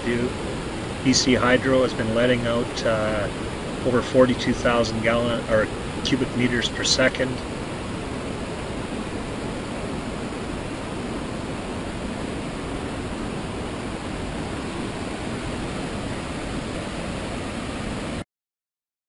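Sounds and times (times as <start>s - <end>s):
water roaring down a spillway: 0.0s - 18.2s.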